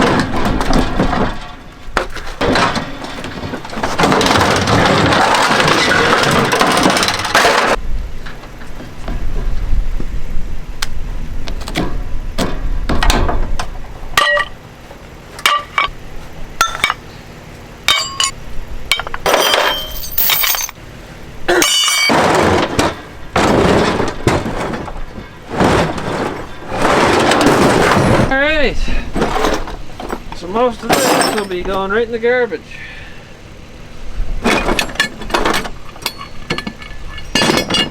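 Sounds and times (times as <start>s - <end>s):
junk knocking and clanking: 0.0s - 10.1s, 11.4s - 17.2s, 17.8s - 20.8s, 21.5s - 32.2s, 34.3s - 37.9s.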